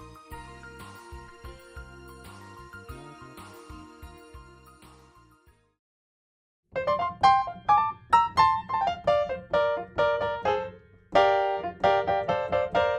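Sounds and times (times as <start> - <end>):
piano melody and chords: 0.0 - 5.4, 6.7 - 12.9.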